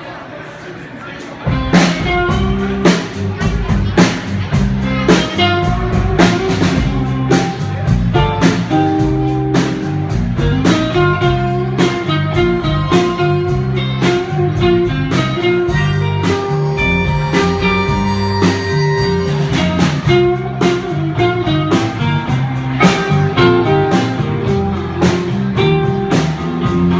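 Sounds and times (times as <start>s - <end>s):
drum kit beat: 1.4s - 26.9s
walking bass: 1.4s - 26.9s
electric guitar lines: 5.0s - 26.9s.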